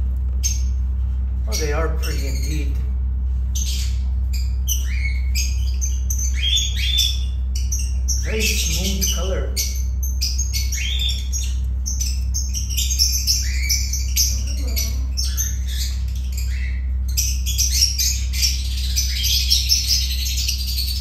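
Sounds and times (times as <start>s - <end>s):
steady low hum: 0.0s - 21.0s
lovebirds chirping and squawking: 0.2s - 21.0s.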